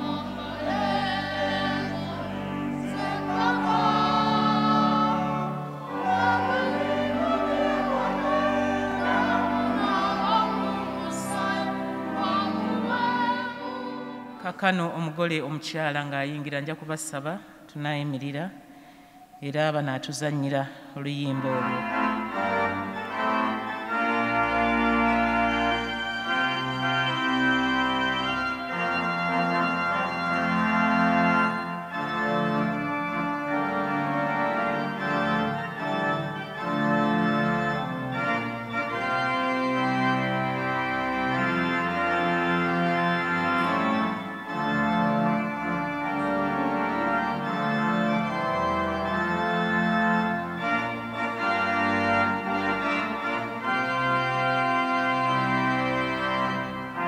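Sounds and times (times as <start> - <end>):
organ playing chords: 0.0 - 57.0.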